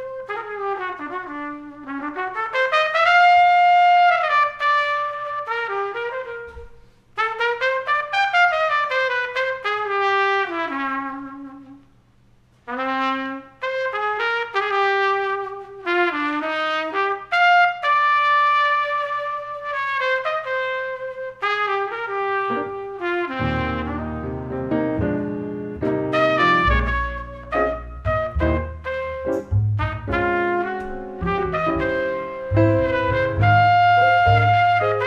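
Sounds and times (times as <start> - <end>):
jazz trumpet playing slow notes: 0.0 - 12.0, 12.6 - 35.0.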